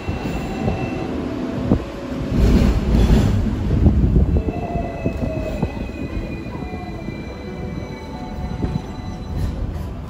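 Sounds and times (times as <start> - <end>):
tram running on rails: 0.0 - 10.0.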